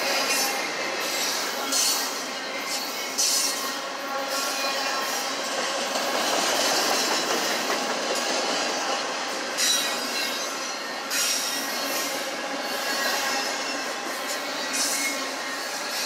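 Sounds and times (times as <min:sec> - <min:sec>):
wheels rumbling and rattling on rail: 0:00.0 - 0:16.0.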